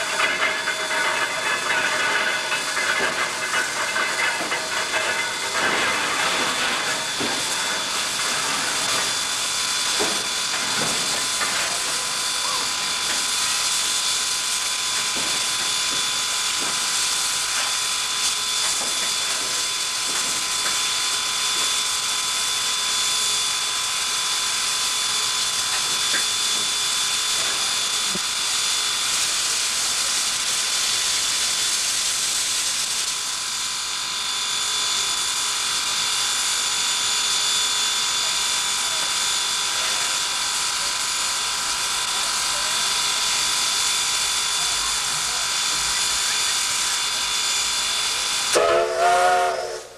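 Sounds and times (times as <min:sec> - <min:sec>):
steam locomotive hissing: 0:00.0 - 0:49.9.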